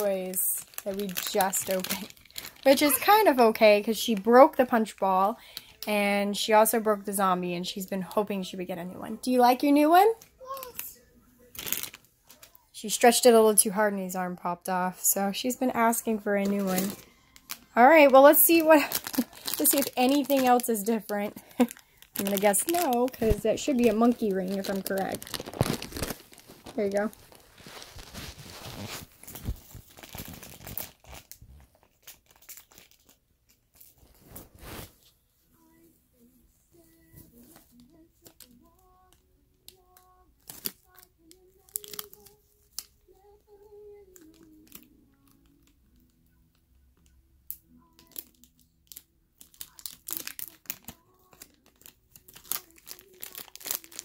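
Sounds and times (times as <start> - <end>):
plastic wrapper crinkling and tearing: 0.0 - 5.9, 9.8 - 12.7, 15.8 - 35.0, 37.3 - 54.0.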